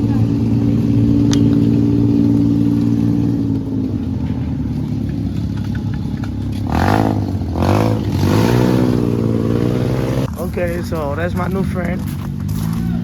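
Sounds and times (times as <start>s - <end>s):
vehicle engine running and revving: 0.0s - 13.0s.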